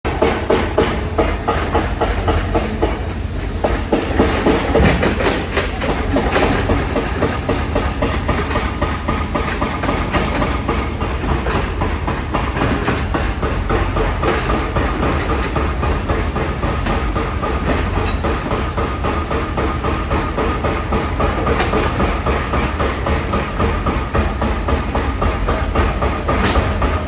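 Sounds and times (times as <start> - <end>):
clatter of knocks and bangs: 0.1 - 27.0.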